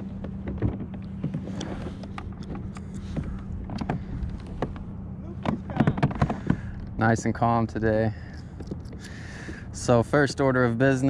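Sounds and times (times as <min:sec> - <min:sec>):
gear clicking on plastic kayak: 0:00.0 - 0:07.6, 0:08.3 - 0:10.0
steady low hum: 0:00.0 - 0:11.0.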